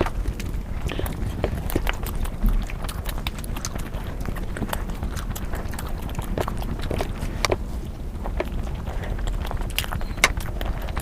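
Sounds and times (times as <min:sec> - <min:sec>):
chewing clicks and smacks: 0:00.0 - 0:11.0.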